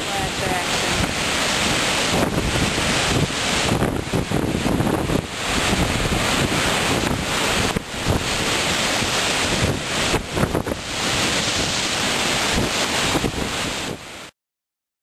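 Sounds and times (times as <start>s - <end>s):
waves breaking on shore: 0.0s - 14.3s
wind buffeting microphone: 0.0s - 14.3s.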